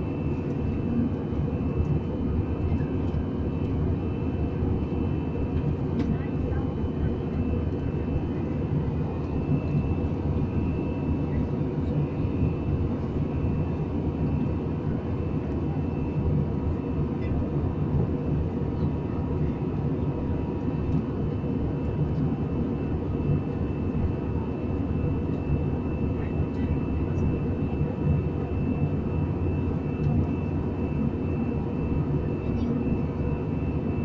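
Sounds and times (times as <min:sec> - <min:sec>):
airliner engine drone in cabin: 0:00.0 - 0:34.0.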